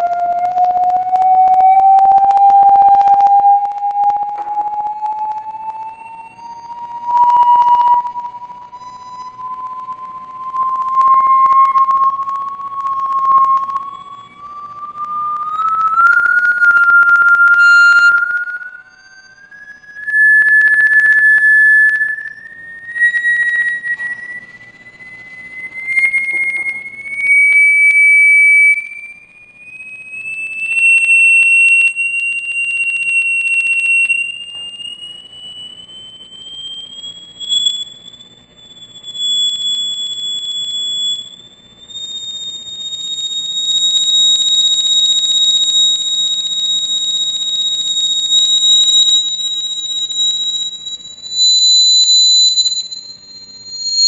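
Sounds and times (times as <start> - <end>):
shrill test tone rising in pitch: 0.0 - 54.0.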